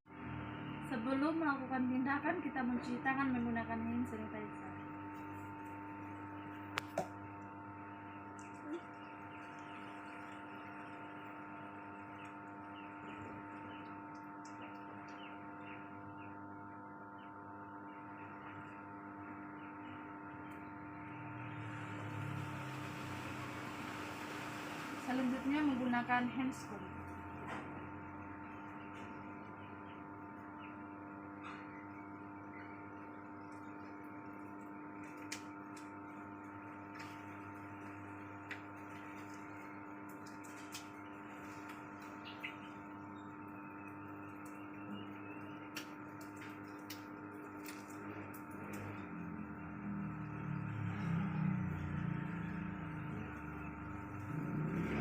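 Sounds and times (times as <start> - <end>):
steady electrical hum: 0.1 - 55.0.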